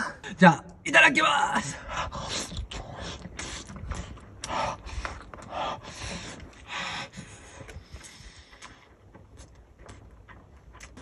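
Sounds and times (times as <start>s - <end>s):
chewing and lip-smacking: 2.2s - 11.0s.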